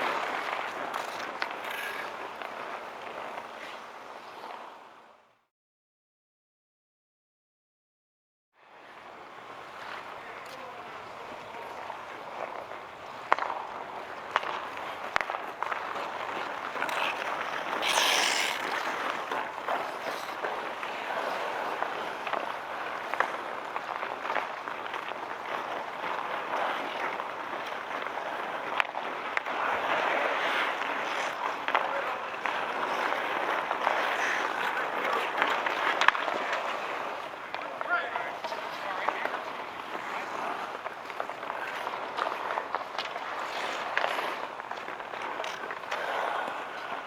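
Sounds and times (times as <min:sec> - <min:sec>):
hockey sticks and puck clacking: 0:00.0 - 0:04.8, 0:08.9 - 0:47.0
skates scraping on ice: 0:00.0 - 0:05.3, 0:08.7 - 0:47.0.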